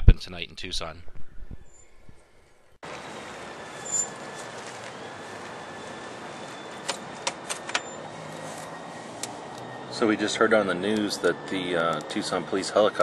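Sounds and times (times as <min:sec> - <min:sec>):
city background noise: 0:02.2 - 0:13.0.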